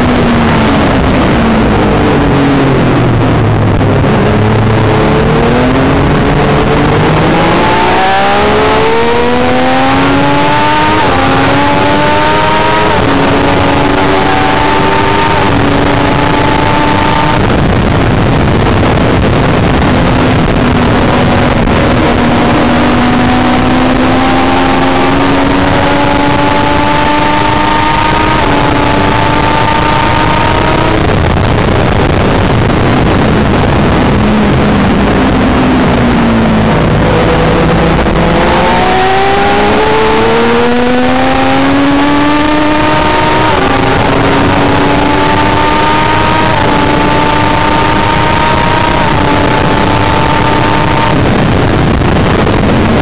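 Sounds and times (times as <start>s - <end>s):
motorcycle engine revving: 0.0s - 53.0s
wind rush: 0.0s - 53.0s.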